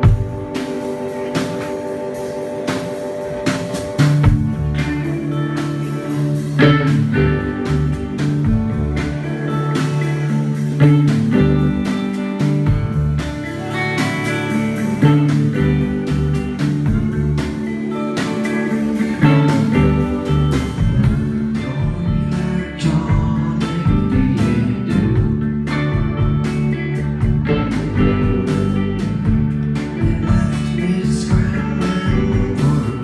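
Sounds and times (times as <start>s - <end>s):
electric guitar: 0.0s - 33.0s
steady drum beat: 0.0s - 33.0s.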